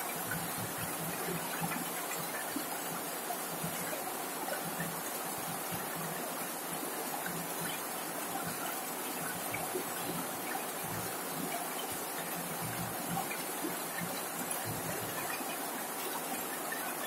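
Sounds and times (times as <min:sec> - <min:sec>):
heavy rain on a metal roof: 0:00.0 - 0:17.0.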